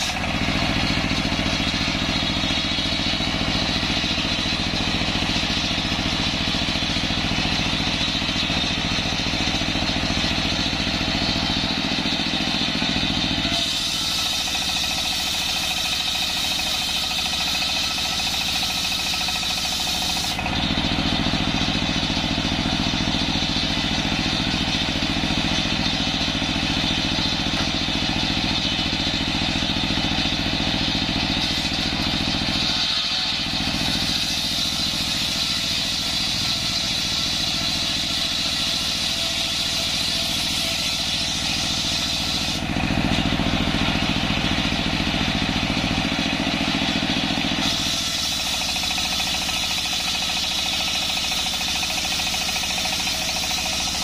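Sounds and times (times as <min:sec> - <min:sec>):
circular saw blade whine: 0:00.0 - 0:54.0
diesel engine drone: 0:00.0 - 0:54.0.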